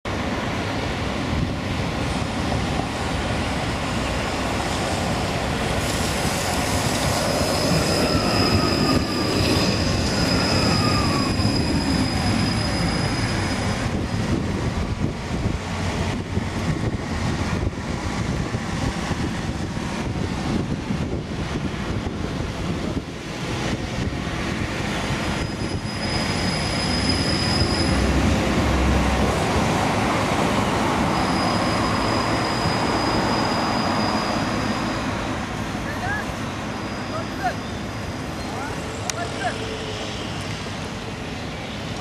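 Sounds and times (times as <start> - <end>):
electric tram passing on rails: 0.1 - 42.0
tram wheels clicking and rattling: 0.1 - 42.0.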